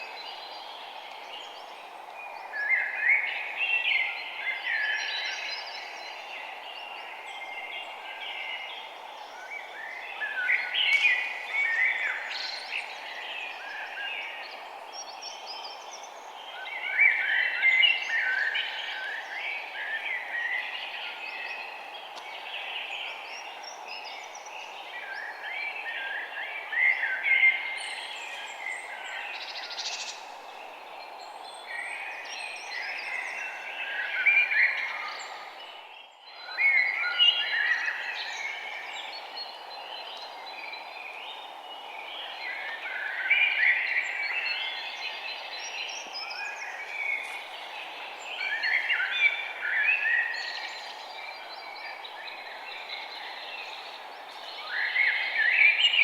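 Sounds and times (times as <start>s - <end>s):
background hiss: 0.0s - 56.0s
songbirds chirping: 0.0s - 56.0s.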